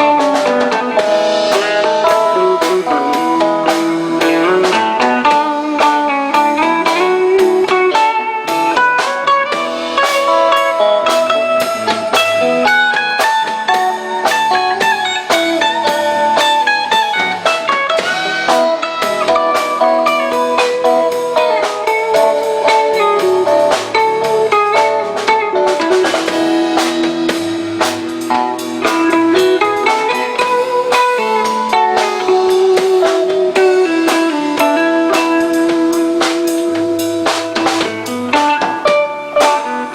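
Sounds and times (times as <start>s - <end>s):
drum kit beat: 0.0s - 39.9s
guitar melody: 0.0s - 39.9s.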